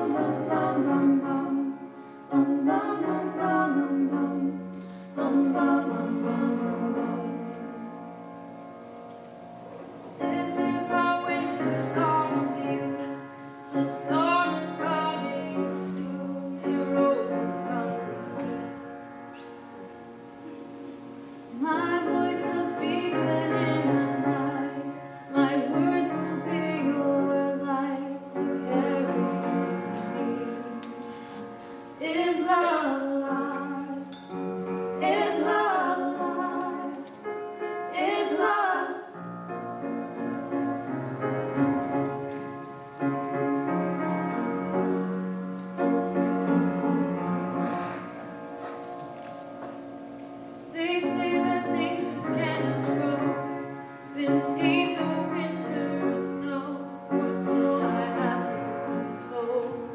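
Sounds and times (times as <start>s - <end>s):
classical singing: 0.0s - 59.9s
piano accompaniment: 0.0s - 59.9s.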